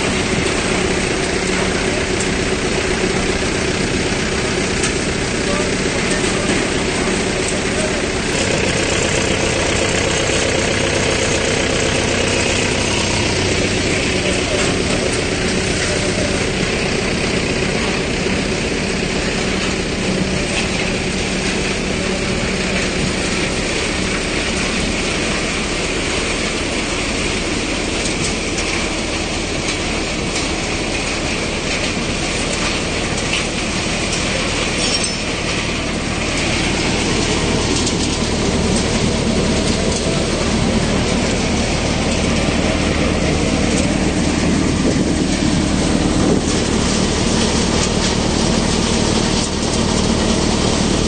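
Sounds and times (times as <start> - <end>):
thresher mechanical rattle: 0.0 - 51.0
tractor engine drone: 0.0 - 51.0.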